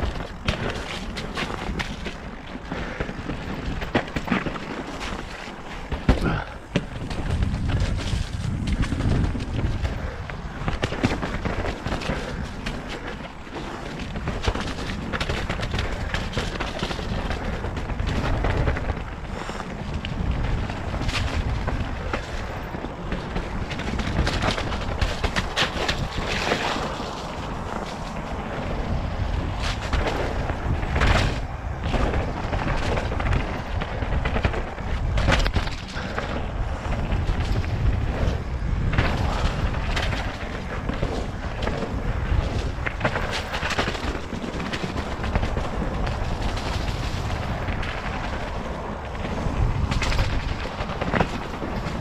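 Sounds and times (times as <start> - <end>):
bike rattling over rocks: 0.0 - 52.0
wind rumble on microphone: 0.0 - 52.0.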